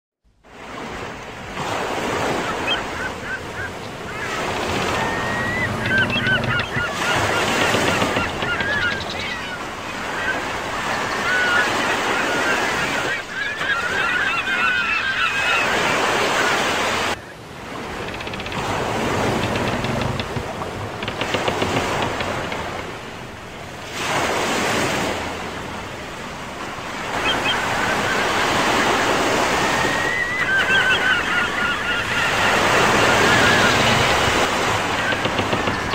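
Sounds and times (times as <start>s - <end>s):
sea waves washing on shore: 0.4s - 35.9s
birds calling: 1.5s - 35.9s.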